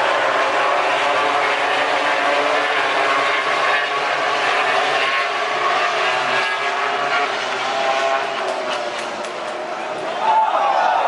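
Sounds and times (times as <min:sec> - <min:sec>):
racing motorcycle engines revving: 0:00.0 - 0:11.0.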